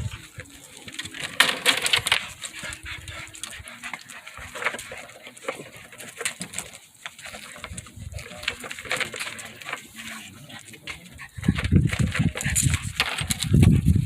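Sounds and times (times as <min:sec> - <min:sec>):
dog playing with a ball: 0:00.0 - 0:14.0.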